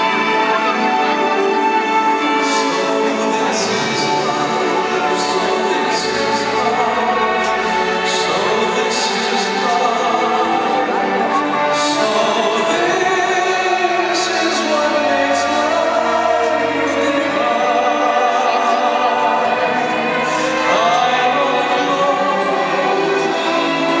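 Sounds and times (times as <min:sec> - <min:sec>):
sung song with orchestral backing: 0:00.0 - 0:24.0.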